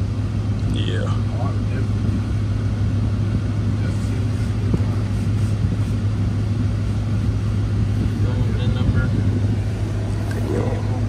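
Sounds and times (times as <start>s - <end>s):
road noise inside cab: 0.0s - 11.0s
truck engine drone: 0.0s - 11.0s.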